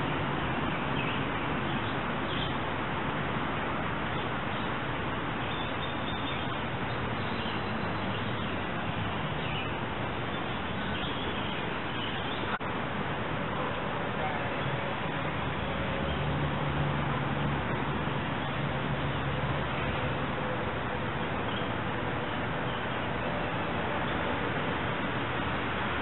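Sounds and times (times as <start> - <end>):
creek flowing over riffles: 0.0 - 26.0.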